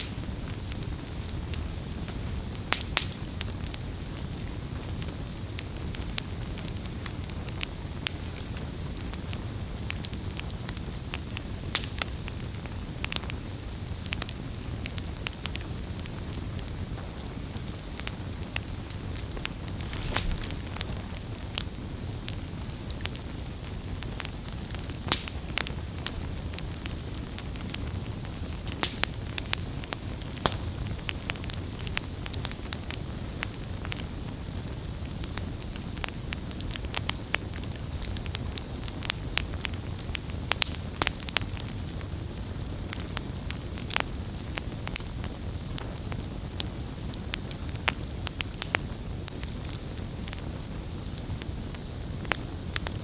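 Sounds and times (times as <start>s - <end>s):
campfire crackling and popping: 0.0s - 53.0s
low rumble of flames: 0.0s - 53.0s.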